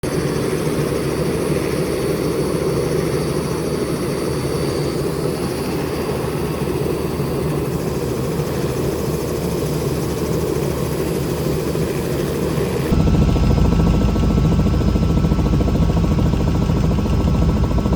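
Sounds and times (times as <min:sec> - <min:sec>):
helicopter engine and rotor: 0:00.0 - 0:17.9.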